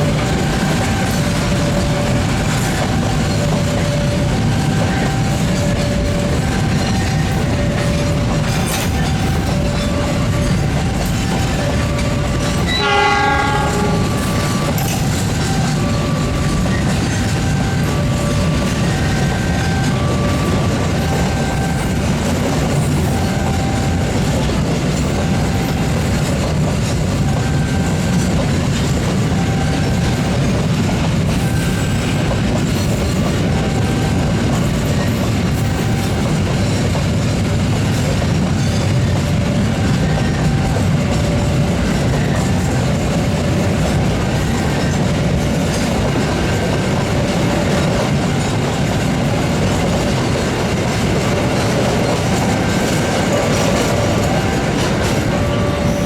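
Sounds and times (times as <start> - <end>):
train wheels rumbling and clacking: 0.0 - 56.0.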